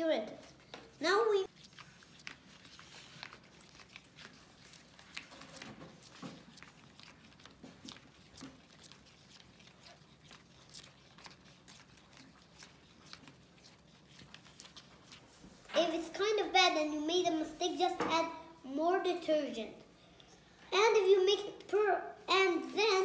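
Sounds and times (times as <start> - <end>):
spoons stirring sticky slime: 0.0 - 23.0.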